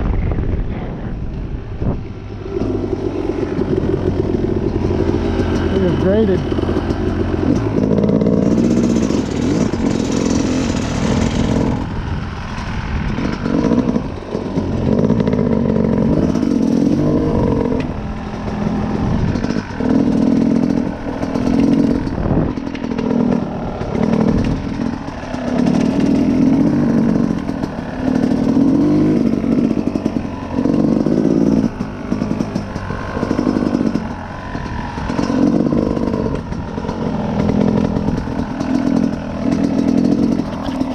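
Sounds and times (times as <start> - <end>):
dirt bike engine revving: 1.8 - 40.9.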